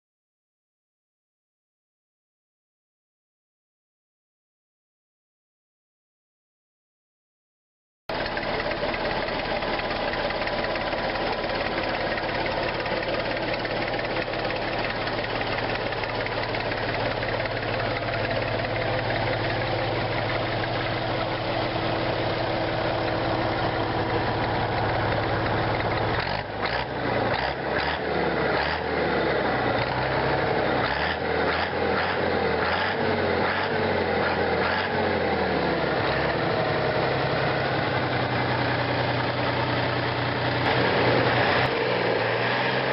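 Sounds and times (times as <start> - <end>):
diesel tractor engine idling: 8.1 - 42.9.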